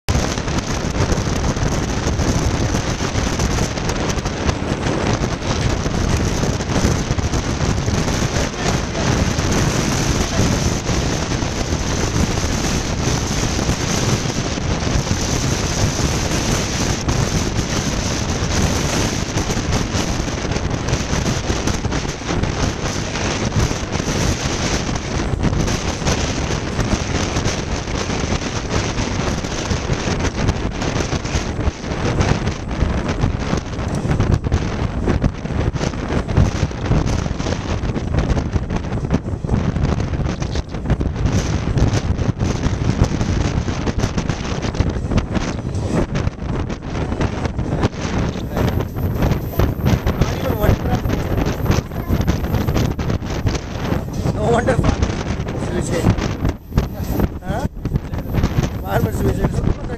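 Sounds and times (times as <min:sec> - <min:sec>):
train running rumble: 0:00.0 - 0:59.9
wind buffeting microphone: 0:00.0 - 0:59.9.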